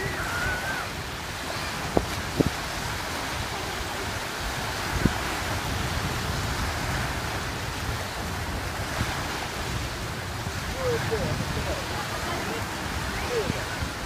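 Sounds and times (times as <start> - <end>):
waves on open water: 0.0 - 14.0
wind: 0.0 - 14.0.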